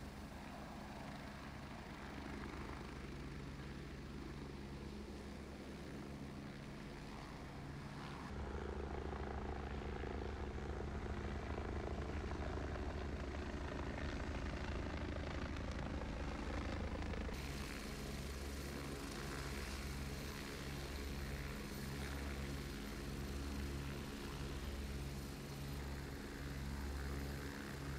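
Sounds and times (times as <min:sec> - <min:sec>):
helicopter rotors beating drone: 0:00.0 - 0:27.9.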